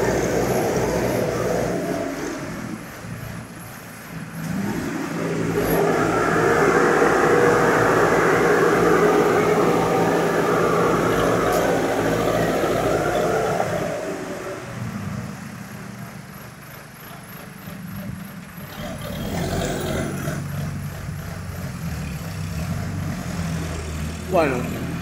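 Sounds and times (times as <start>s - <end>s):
backhoe diesel engine running: 0.0s - 25.0s.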